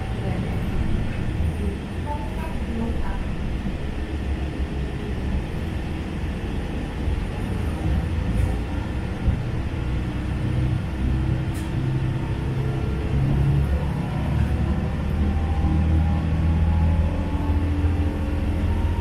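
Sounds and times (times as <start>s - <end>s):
railcar engine and running gear rumble: 0.0s - 19.0s.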